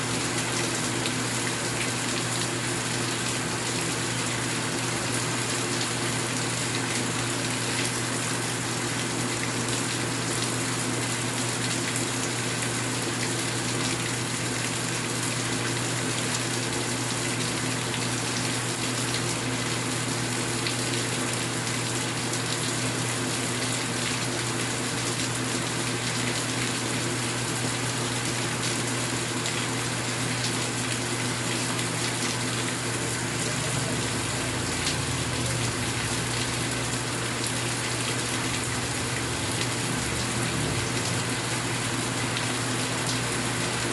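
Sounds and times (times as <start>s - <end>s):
rain falling steadily: 0.0s - 43.9s.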